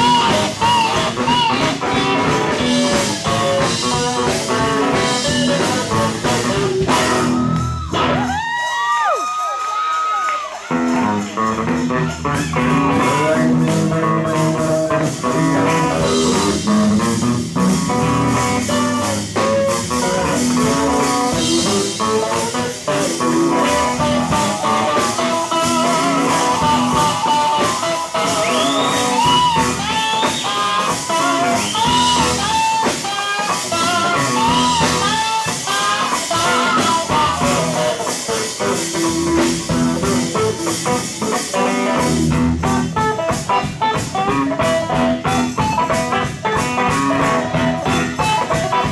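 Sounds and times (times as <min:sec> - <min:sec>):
steel guitar sliding notes: 0:00.0 - 0:08.3, 0:10.7 - 0:48.9
gospel band playing: 0:00.0 - 0:48.9.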